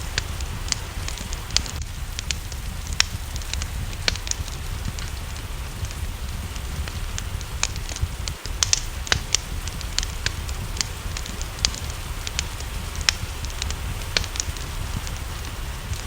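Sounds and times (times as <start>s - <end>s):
rain: 0.0s - 16.0s
steady low rumble: 0.0s - 16.0s
wood fire crackling and popping: 0.0s - 16.0s.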